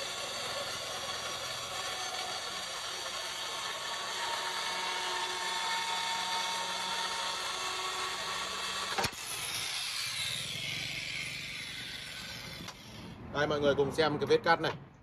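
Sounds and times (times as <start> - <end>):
tile cutter cutting tile: 0.0 - 13.0.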